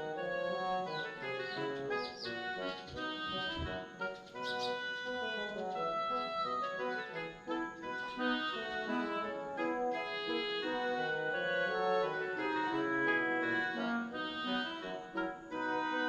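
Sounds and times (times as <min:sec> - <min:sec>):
light organ-like keyboard melody: 0:00.0 - 0:16.0.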